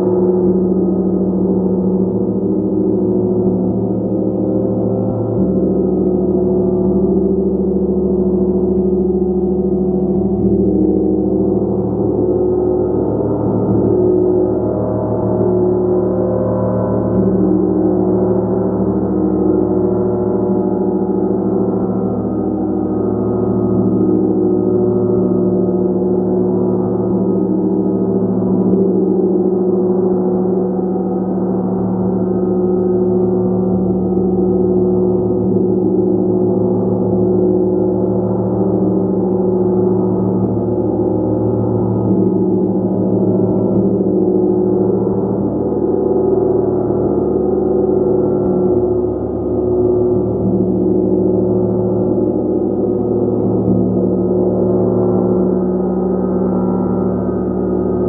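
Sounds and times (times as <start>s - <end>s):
gong played continuously: 0.0s - 58.0s.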